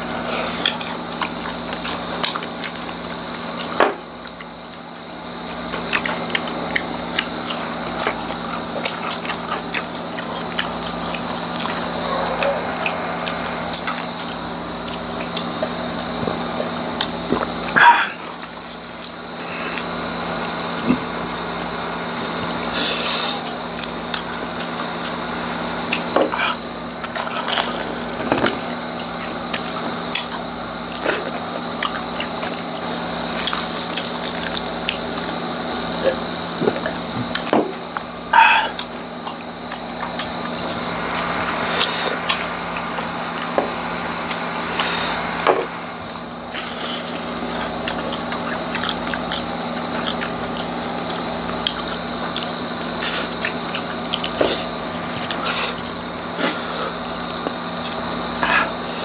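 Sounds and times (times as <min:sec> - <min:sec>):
low steady hum: 0:00.0 - 0:56.3
crisp crunching and chewing: 0:00.0 - 0:59.0.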